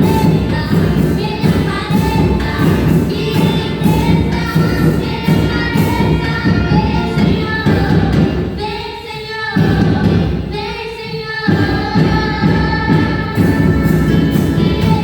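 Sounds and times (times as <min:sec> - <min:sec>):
percussion band drumming: 0:00.0 - 0:10.9, 0:11.5 - 0:15.0.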